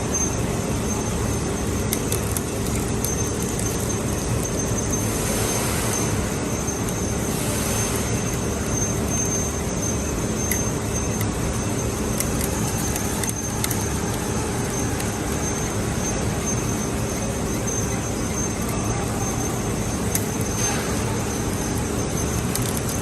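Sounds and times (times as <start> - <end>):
steady machine drone: 0.0 - 23.0
thin high whine: 0.0 - 23.0.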